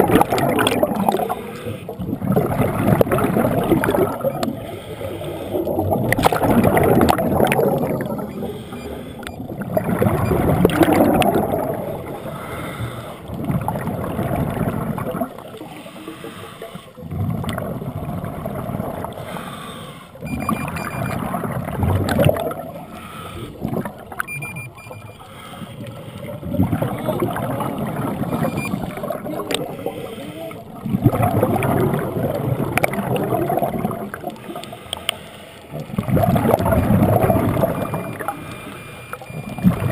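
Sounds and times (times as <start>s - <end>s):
scuba regulator bubbles gurgling: 0.0s - 39.9s.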